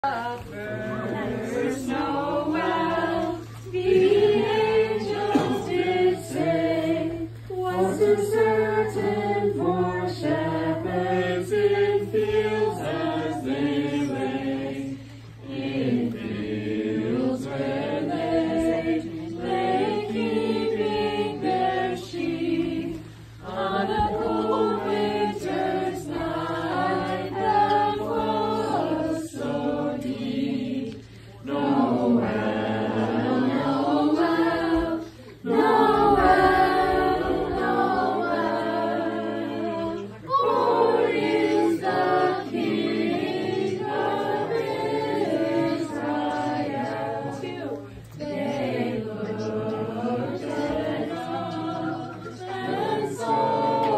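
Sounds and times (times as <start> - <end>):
carolers singing unaccompanied: 0.0 - 53.9.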